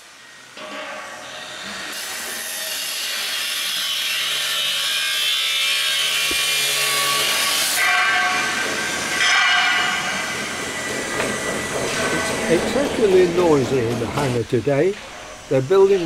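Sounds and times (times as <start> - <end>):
power tool cutting or grinding: 1.2 - 16.0.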